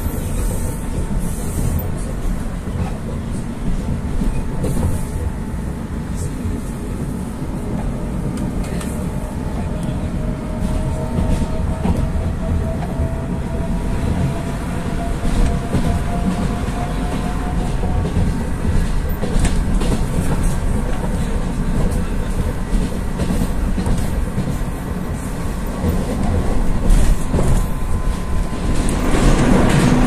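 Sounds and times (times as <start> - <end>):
metro car rumble: 0.0 - 30.0
passing metro train: 0.0 - 30.0.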